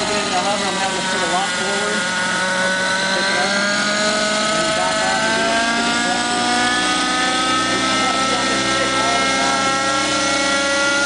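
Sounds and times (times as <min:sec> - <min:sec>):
model helicopter engine running: 0:00.0 - 0:11.0.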